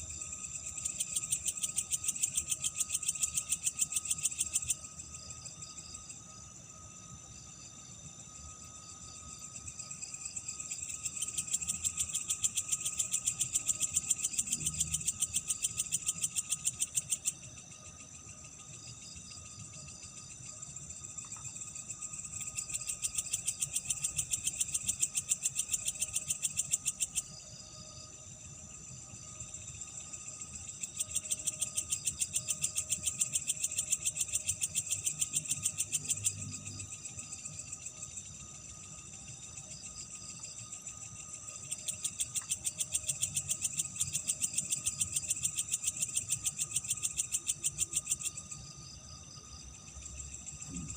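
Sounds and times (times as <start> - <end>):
faint steady tone: 0.0 - 50.9
insects trilling: 0.0 - 50.9.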